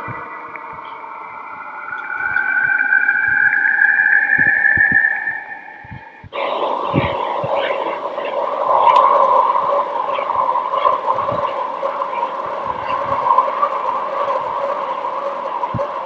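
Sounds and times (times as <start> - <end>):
noisy two-pitch drone: 0.0 - 16.0.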